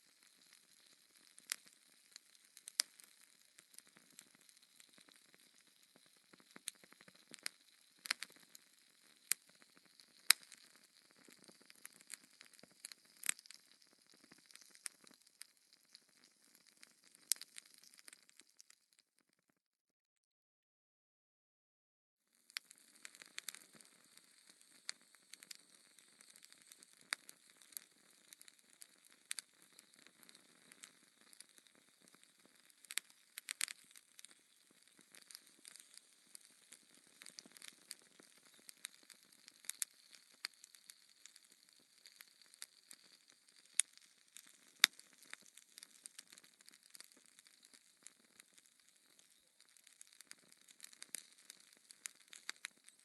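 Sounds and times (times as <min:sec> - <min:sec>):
fire pops and snaps: 0:00.0 - 0:19.3, 0:22.4 - 0:53.0.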